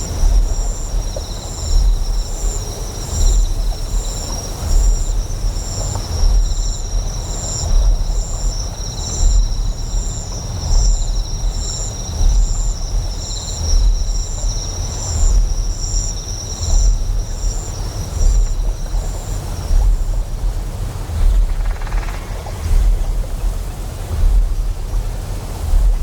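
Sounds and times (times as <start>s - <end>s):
insects trilling: 0.0s - 25.8s
flowing water hiss: 0.0s - 26.0s
insects chirping: 0.0s - 26.0s
pulsing generator hum: 0.0s - 26.0s.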